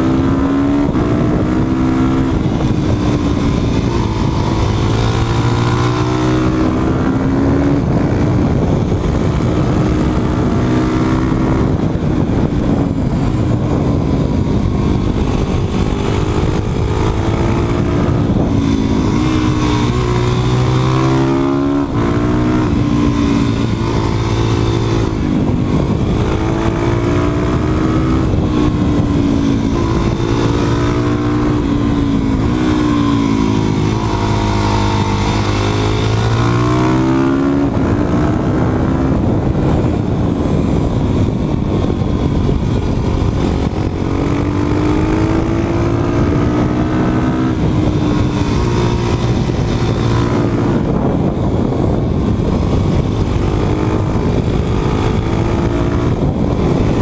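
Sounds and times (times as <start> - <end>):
motorcycle engine revving: 0.0 - 57.0
steady rush of noise: 0.0 - 57.0.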